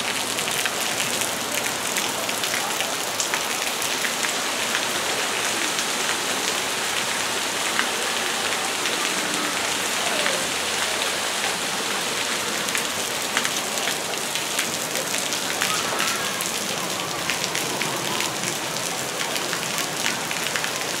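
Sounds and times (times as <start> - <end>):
water splashing on wet deck: 0.0 - 21.0.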